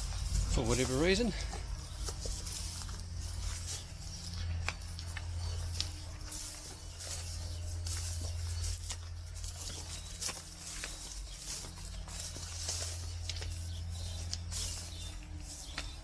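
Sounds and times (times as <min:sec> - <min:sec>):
footsteps on gravel and grass: 0:00.0 - 0:16.0
steady low hum: 0:00.0 - 0:16.0.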